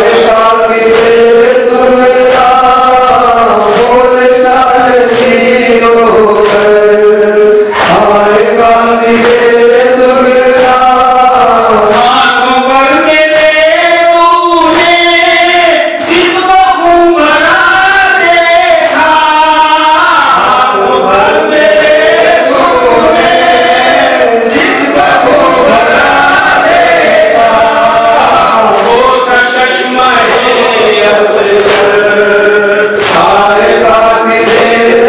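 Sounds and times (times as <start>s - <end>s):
men chanting into microphones: 0.0s - 35.0s.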